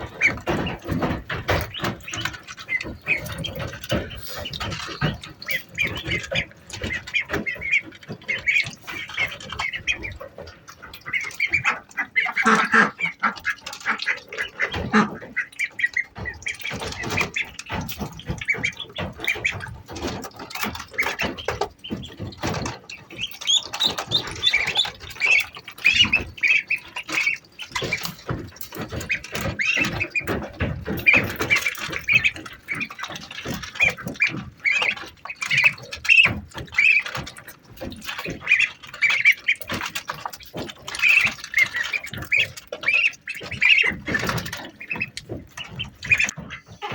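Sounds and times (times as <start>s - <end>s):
ducklings peeping: 0.0s - 46.9s
knocks and rustles: 0.0s - 46.9s.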